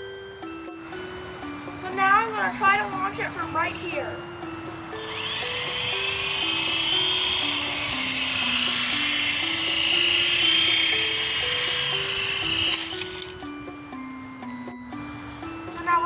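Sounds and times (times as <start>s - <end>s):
simple background tune: 0.0s - 16.0s
toy helicopter drone whining: 0.6s - 16.0s.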